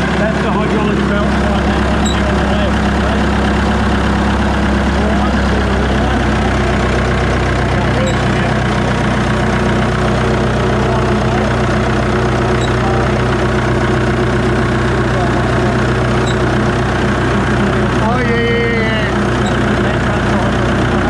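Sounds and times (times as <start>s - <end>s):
wood chipper engine humming: 0.0s - 21.0s.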